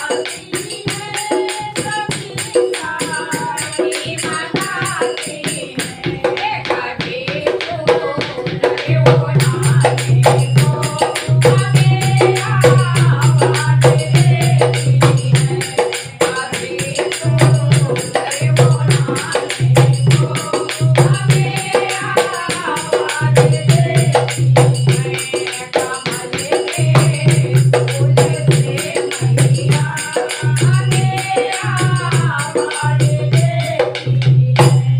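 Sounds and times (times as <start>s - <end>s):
fast dense percussion: 0.0s - 34.9s.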